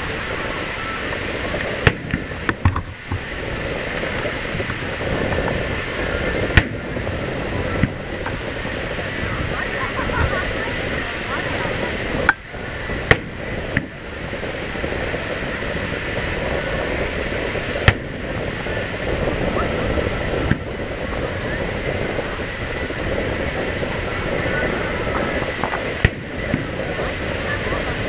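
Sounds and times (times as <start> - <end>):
crowd murmur: 0.0 - 28.0
fireworks bangs: 0.0 - 28.0.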